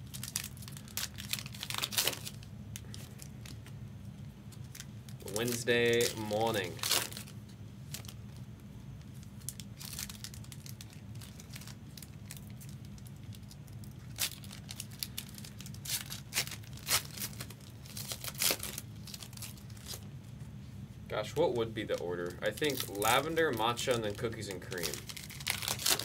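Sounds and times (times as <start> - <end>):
plastic wrapping crinkling: 0.0 - 20.1, 21.2 - 26.0
low steady hum: 0.0 - 26.0.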